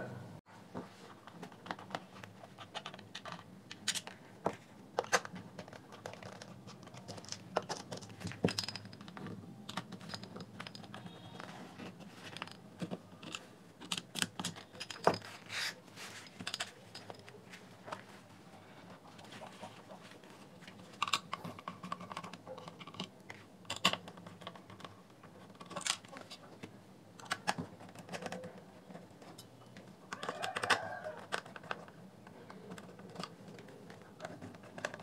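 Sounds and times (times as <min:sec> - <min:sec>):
hard plastic clicks and scrapes: 0:01.2 - 0:18.1, 0:20.7 - 0:35.0.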